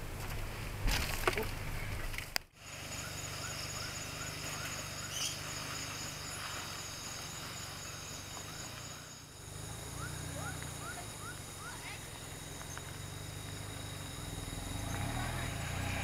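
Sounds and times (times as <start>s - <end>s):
insects trilling: 2.6s - 16.0s.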